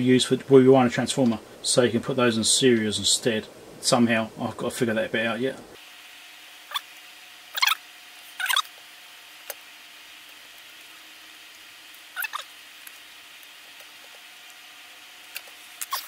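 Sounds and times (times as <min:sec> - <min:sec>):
soldering iron sizzling crackles: 0:00.0 - 0:16.0.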